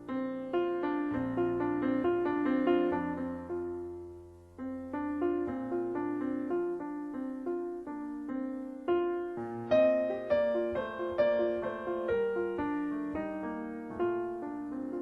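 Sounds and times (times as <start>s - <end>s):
piano single notes: 0.0s - 15.0s.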